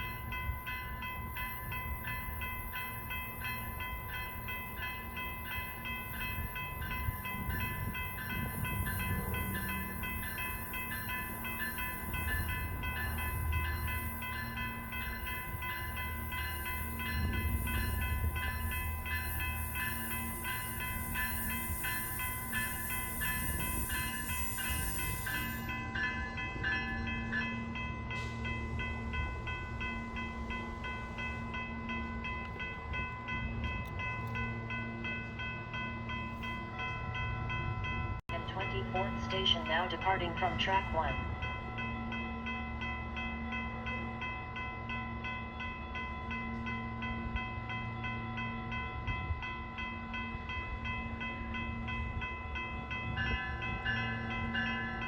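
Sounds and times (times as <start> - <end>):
crossing bell ringing: 0.0 - 55.0
electric train rumble: 0.0 - 55.0.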